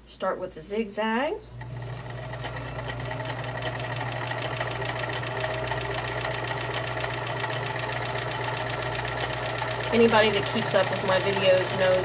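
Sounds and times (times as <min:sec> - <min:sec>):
sewing machine running: 0:01.6 - 0:12.0.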